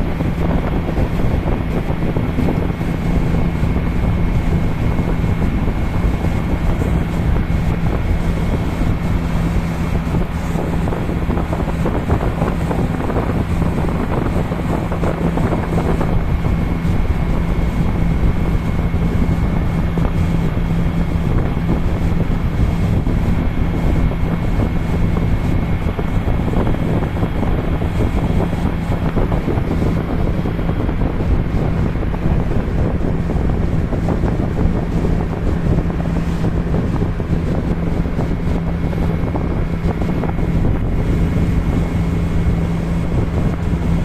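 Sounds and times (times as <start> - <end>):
ship engine droning: 0.0 - 44.0
wind noise on microphone: 0.0 - 44.0.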